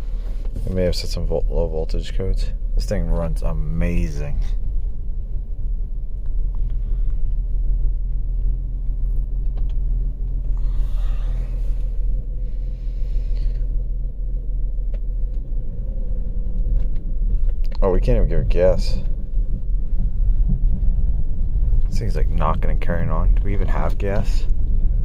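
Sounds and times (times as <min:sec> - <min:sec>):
car engine misfiring: 0:00.0 - 0:25.0.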